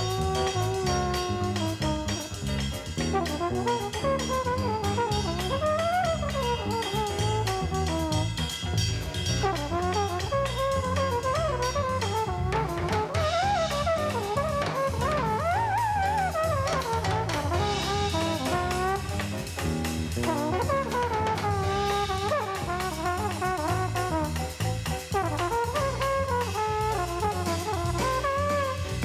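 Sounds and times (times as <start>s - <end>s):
drum kit: 0.0s - 29.0s
jazz horn melody: 0.0s - 29.0s
walking bass line: 0.0s - 29.0s.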